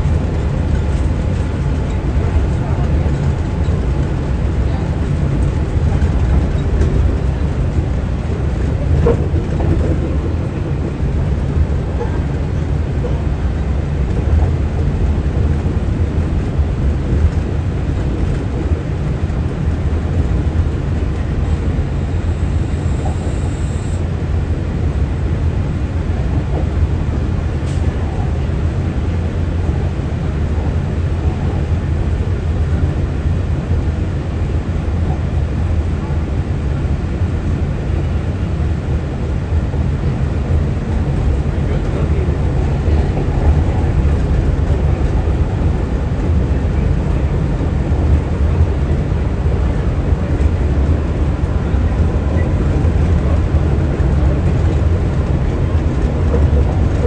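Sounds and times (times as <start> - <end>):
monorail running low rumble: 0.0 - 57.0.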